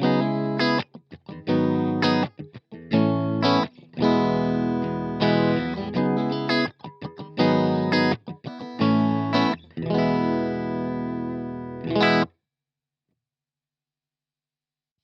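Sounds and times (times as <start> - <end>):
electric guitar chords: 0.0 - 12.3.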